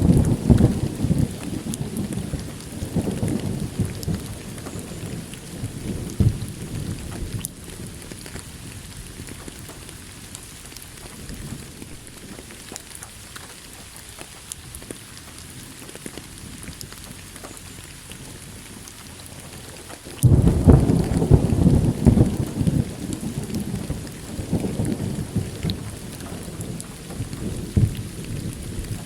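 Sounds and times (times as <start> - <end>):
thunder rumble: 0.0 - 13.8, 14.6 - 29.0
steady rain falling: 0.0 - 29.0.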